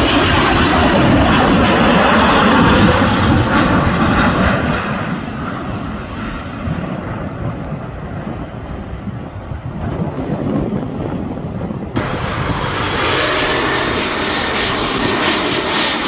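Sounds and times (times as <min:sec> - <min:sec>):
airplane engines passing: 0:00.0 - 0:16.0.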